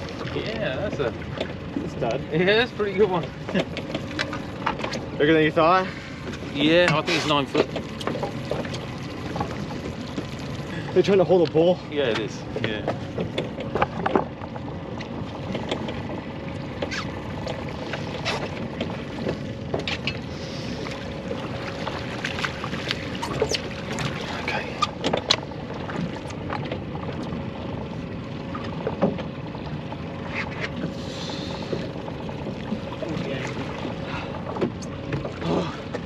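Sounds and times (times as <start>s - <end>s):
wind and water rushing: 0.0s - 36.0s.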